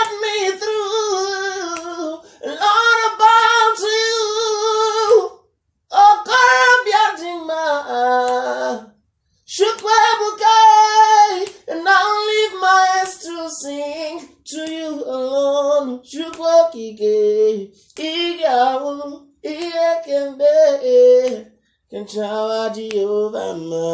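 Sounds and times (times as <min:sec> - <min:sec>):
man singing unaccompanied: 0:00.0 - 0:23.9.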